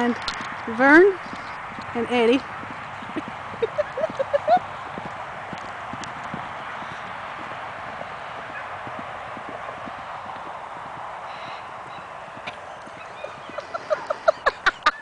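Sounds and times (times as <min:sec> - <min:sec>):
steady rushing hiss: 0:00.0 - 0:14.9
horses' hooves galloping: 0:00.0 - 0:15.0.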